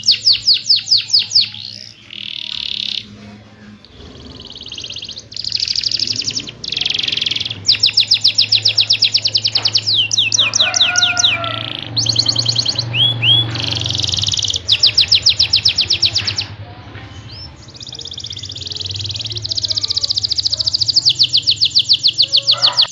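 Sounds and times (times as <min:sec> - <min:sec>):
canary singing trills: 0:00.0 - 0:22.9.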